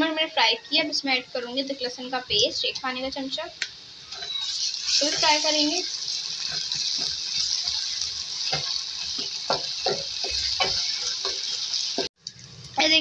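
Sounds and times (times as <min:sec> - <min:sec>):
food sizzling in hot oil: 0:00.3 - 0:13.0.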